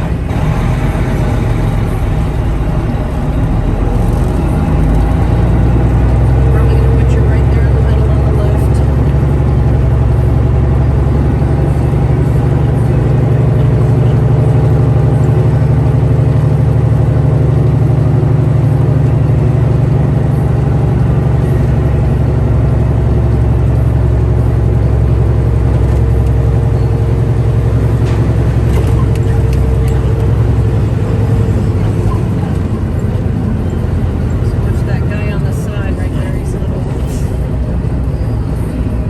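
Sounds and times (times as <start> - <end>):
road noise: 0.0 - 39.0
vehicle engine drone: 0.0 - 39.0.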